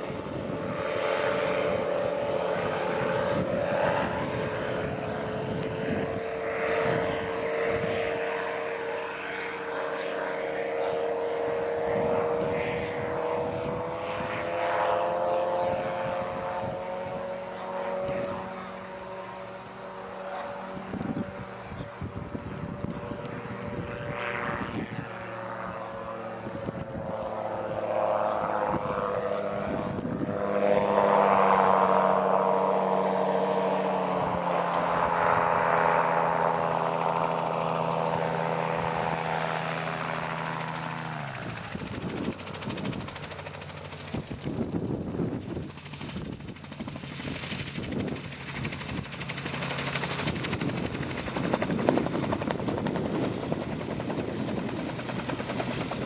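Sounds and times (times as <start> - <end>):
propeller engine droning: 0.0 - 56.0.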